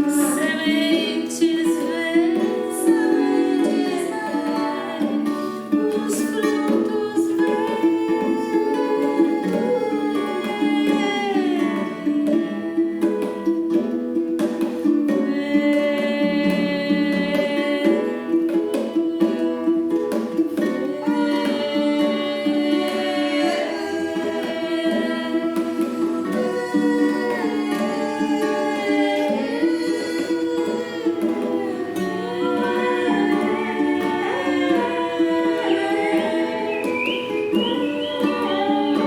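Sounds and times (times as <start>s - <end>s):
plucked guitar: 0.0s - 39.0s
women singing long notes: 0.0s - 39.0s.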